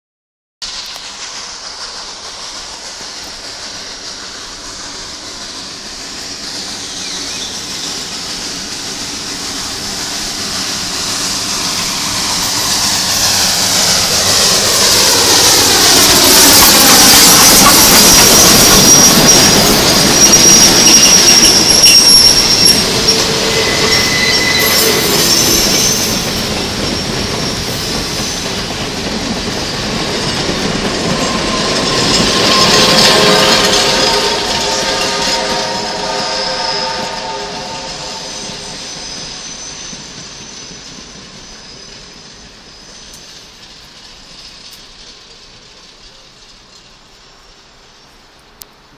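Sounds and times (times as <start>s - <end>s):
steam locomotive passing: 0.6s - 48.9s
train wheels clacking on rail joints: 0.7s - 36.2s, 38.4s - 48.8s
high wheel squeal: 3.1s - 48.4s.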